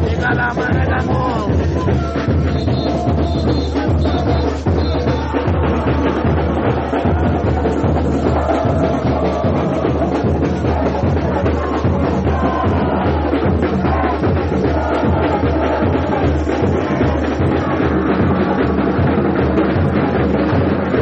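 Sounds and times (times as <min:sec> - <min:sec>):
deep bass drums: 0:00.0 - 0:21.0
samba drumming: 0:00.0 - 0:21.0.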